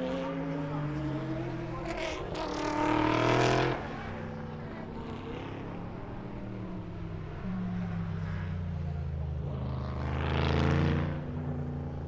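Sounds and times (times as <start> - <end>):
distant engine running steadily: 0.0 - 12.0
race car engines accelerating past: 0.0 - 12.0.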